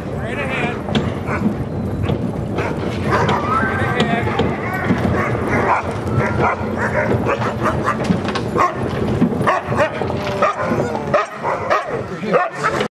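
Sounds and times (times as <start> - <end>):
dogs barking and yipping: 0.9 - 12.9.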